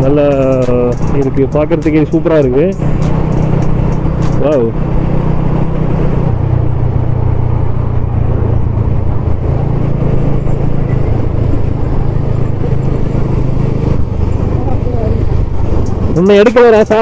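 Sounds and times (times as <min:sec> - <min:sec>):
motorcycle engines humming: 0:00.0 - 0:17.0
wind and road noise: 0:00.0 - 0:17.0.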